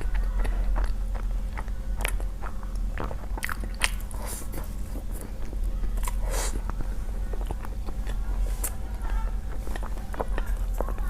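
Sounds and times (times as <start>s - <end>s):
chewing noodles: 0.0s - 11.0s
steady low hum: 0.0s - 11.0s.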